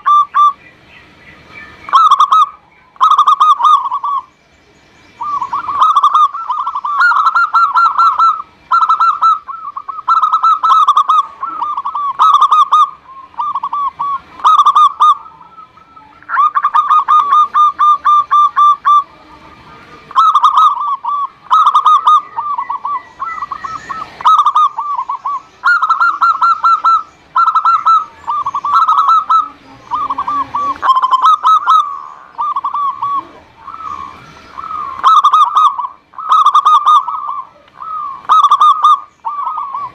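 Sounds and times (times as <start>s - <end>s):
dove cooing: 0.0s - 0.7s, 1.8s - 4.3s, 5.2s - 39.9s
rolling bird trill: 0.0s - 39.9s.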